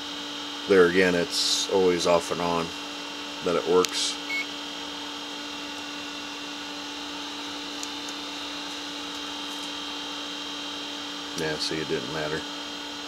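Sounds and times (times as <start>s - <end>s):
electrical hum with high whine: 0.0s - 13.0s.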